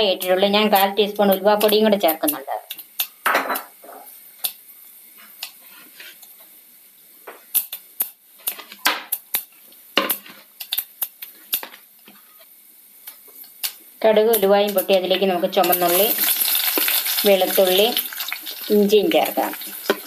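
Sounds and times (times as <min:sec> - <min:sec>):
seeds popping in hot oil: 0:00.0 - 0:04.6, 0:07.2 - 0:12.3, 0:13.0 - 0:20.0
faint oil sizzle: 0:00.0 - 0:20.0.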